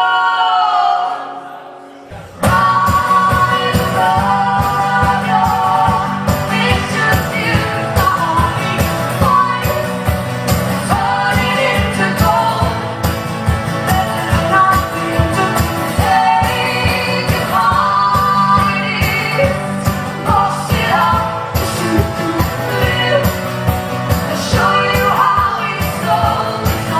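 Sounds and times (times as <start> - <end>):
live band with singing: 0.0 - 26.9.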